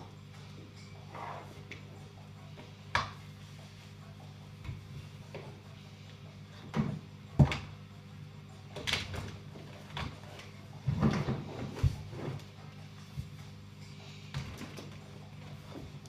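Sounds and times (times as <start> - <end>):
aquarium equipment hum: 0.0 - 16.0.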